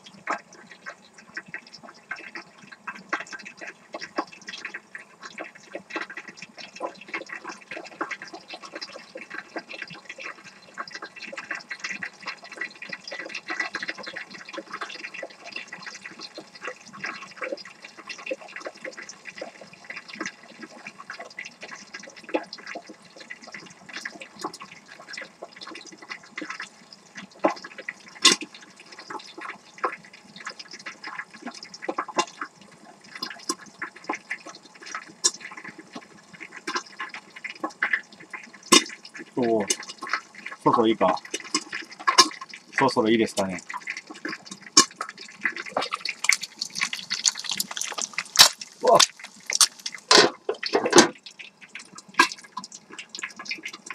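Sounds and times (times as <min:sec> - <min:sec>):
oil sizzling and popping: 0:00.0 - 0:53.9.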